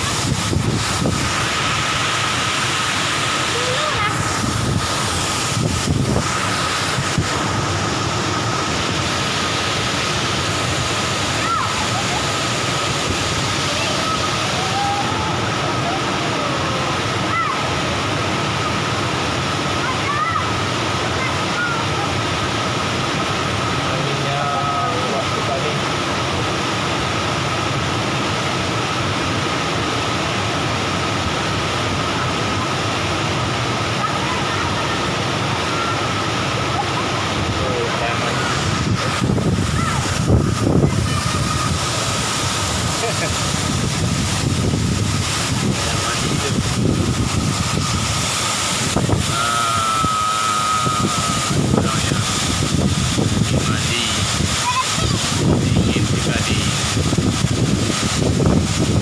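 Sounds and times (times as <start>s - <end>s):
steady high whine: 0.0s - 59.0s
waterfall rushing: 0.0s - 59.0s.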